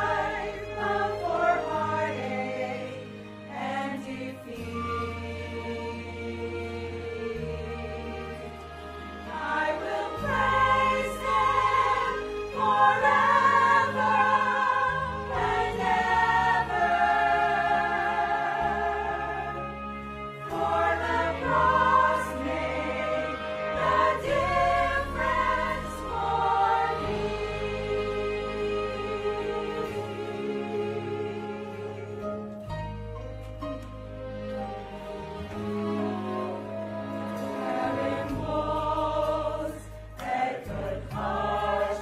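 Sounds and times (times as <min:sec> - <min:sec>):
choir singing: 0:00.0 - 0:32.6, 0:34.8 - 0:42.0
instrumental accompaniment: 0:00.0 - 0:42.0.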